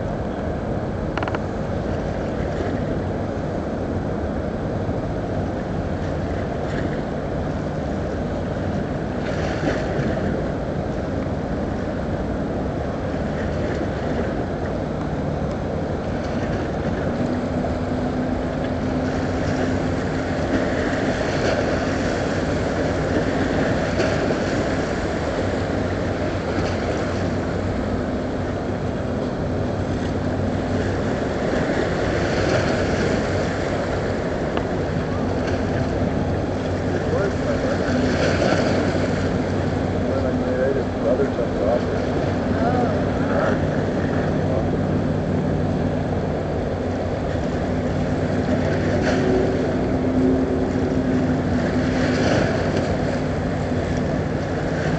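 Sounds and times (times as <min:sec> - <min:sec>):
higher hum tone: 0:00.0 - 0:54.9
ship engine drone: 0:00.0 - 0:54.9
water: 0:00.0 - 0:54.9.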